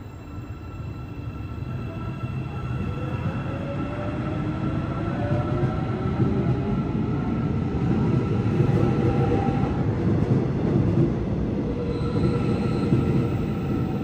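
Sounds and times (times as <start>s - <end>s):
train rumbling along track: 0.0s - 14.0s.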